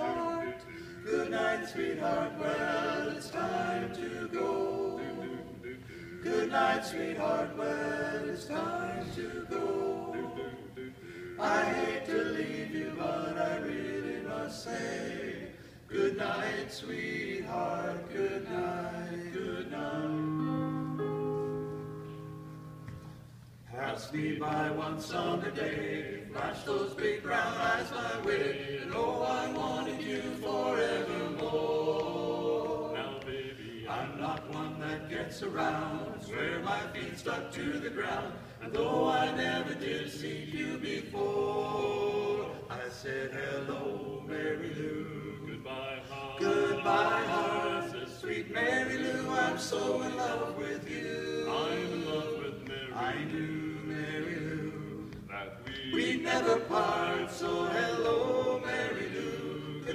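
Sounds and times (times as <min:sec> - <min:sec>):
male vocal quartet singing: 0:00.0 - 0:21.0, 0:23.7 - 0:59.9.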